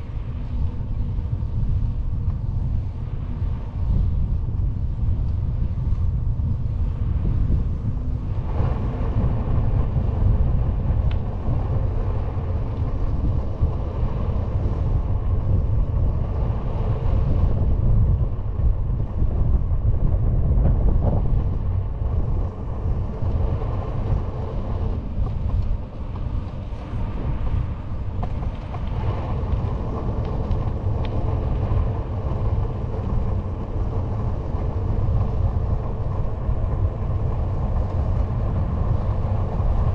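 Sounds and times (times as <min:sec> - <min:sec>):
bicycle tyre humming on asphalt: 0:00.0 - 0:39.9
wind noise on microphone: 0:00.0 - 0:39.9.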